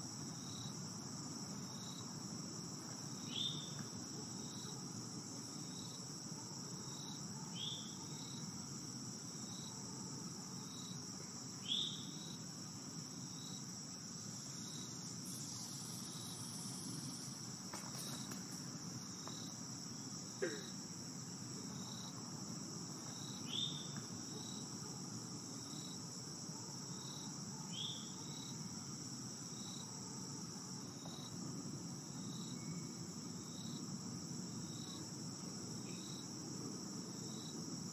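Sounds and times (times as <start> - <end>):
insect chirring: 0.0 - 36.4.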